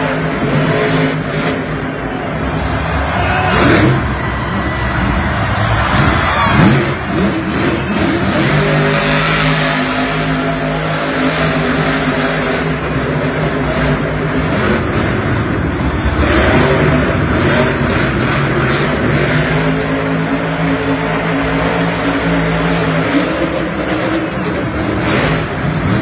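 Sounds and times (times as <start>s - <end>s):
monster truck engines revving: 0.0s - 26.0s.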